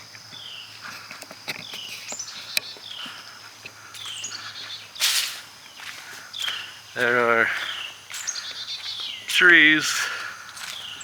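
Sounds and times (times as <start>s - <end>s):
high insect drone: 0.0s - 11.0s
songbird chirping: 0.0s - 11.0s.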